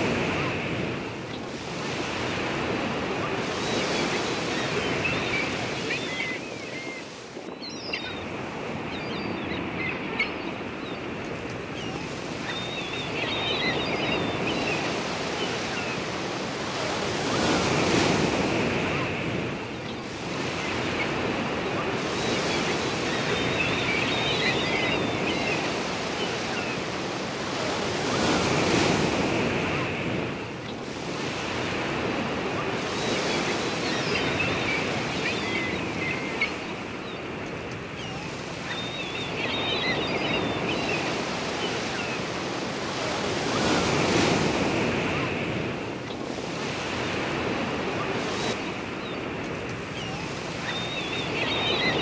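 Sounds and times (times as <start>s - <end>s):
small waves breaking on shore: 0.0s - 52.0s.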